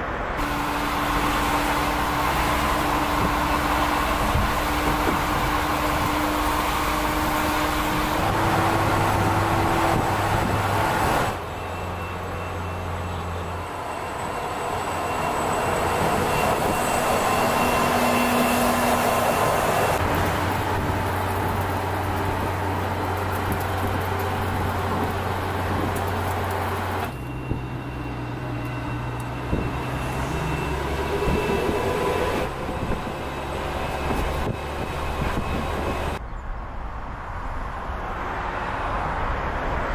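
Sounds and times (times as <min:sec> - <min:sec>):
tyre and road rumble: 0:00.1 - 0:36.5
whining tones: 0:00.4 - 0:36.2.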